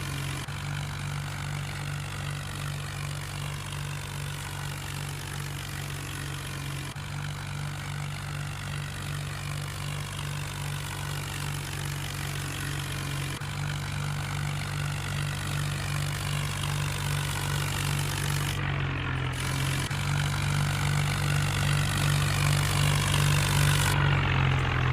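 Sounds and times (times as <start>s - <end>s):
tractor diesel engine droning: 0.0s - 24.9s.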